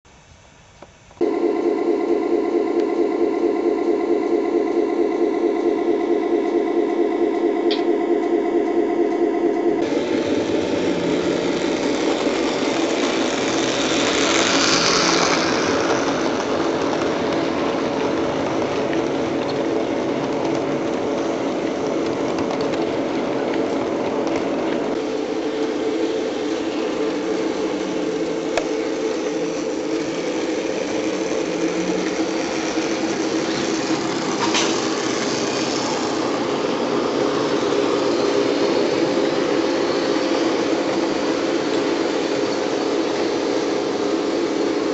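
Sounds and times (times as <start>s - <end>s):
model diesel locomotive drone: 0.1s - 44.9s.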